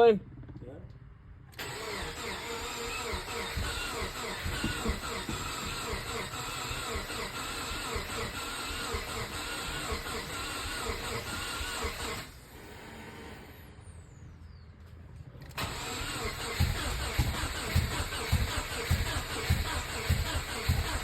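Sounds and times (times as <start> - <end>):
engine cranking without starting: 1.5 - 13.6, 15.4 - 21.0.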